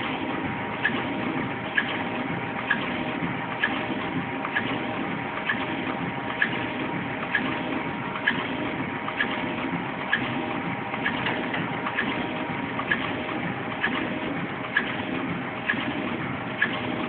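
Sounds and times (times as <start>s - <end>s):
machine clicking: 0.0s - 17.0s
tissue machine humming: 0.0s - 17.0s.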